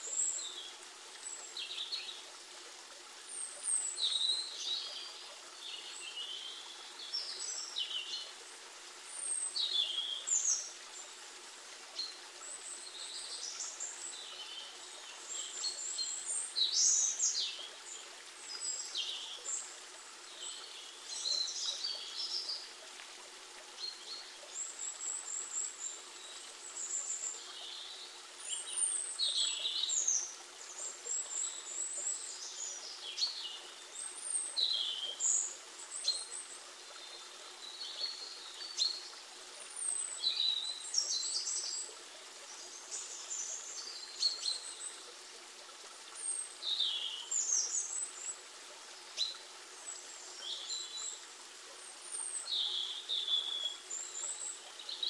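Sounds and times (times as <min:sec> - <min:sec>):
river flowing: 0:00.0 - 0:55.0
small birds singing and chirping: 0:03.3 - 0:08.3, 0:09.2 - 0:11.1, 0:12.0 - 0:22.7, 0:23.8 - 0:45.1, 0:46.2 - 0:48.4, 0:51.8 - 0:55.0.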